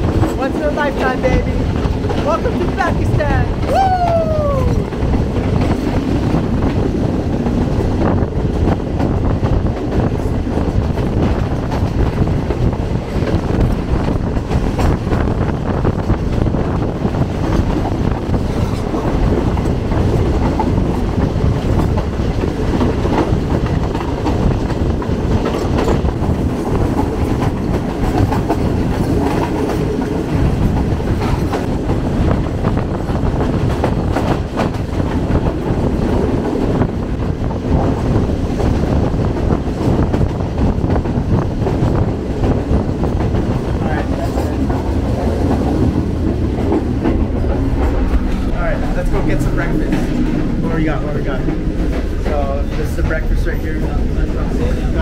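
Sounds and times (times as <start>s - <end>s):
wheels clicking over rail joints: 0.0s - 48.6s
train rumbling: 0.0s - 55.0s.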